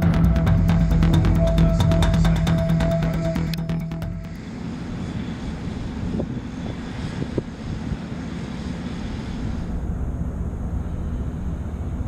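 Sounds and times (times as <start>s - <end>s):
drone propeller engine running: 0.0s - 12.0s.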